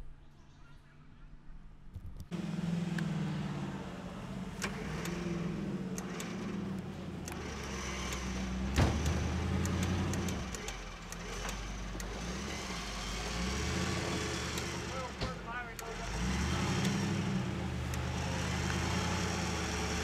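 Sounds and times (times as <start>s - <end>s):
sharp clicks: 2.2s - 3.2s, 4.6s - 20.0s
buggy engine running: 2.3s - 20.0s.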